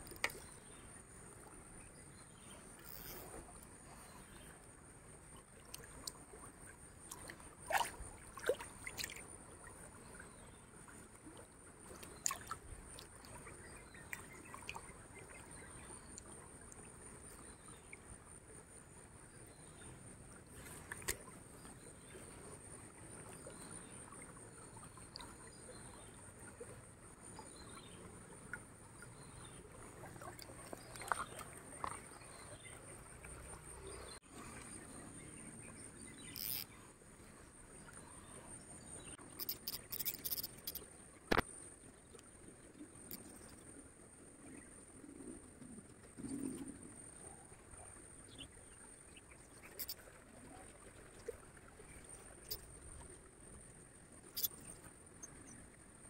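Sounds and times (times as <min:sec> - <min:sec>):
stream water sloshing: 0:00.0 - 0:56.0.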